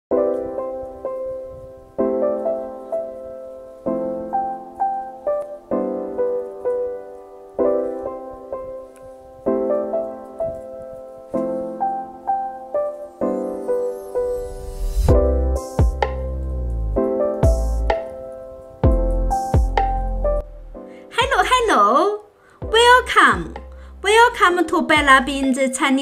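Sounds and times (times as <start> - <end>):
slow solo piano piece: 0.1 - 21.1.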